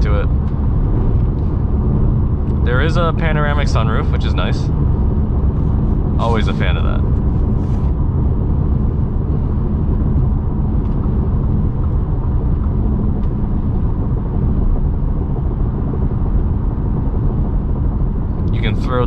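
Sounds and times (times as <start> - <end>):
low engine hum: 0.0 - 19.0
tyre and road rumble: 0.0 - 19.0.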